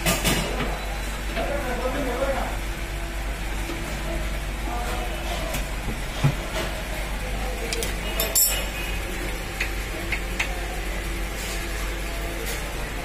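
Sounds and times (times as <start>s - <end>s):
workshop hum: 0.0s - 13.0s.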